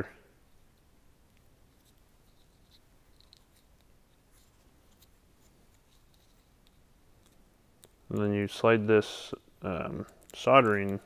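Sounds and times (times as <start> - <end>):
wires twisting ticks and rustles: 0.0 - 11.0.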